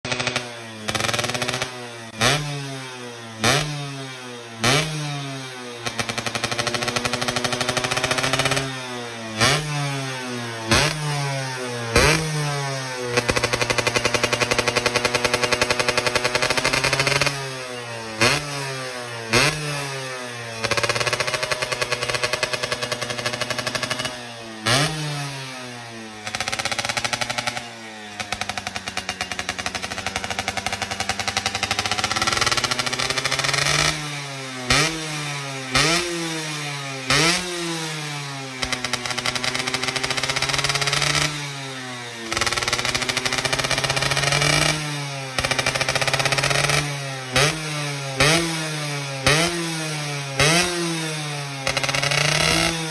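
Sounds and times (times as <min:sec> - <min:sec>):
two-stroke engine revving: 0:00.0 - 0:52.9.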